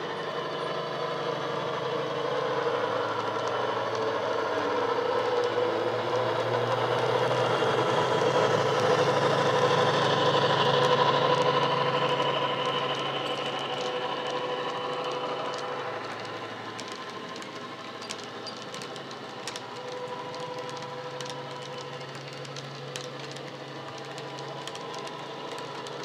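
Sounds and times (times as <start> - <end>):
model locomotive diesel engine: 0.0 - 26.0.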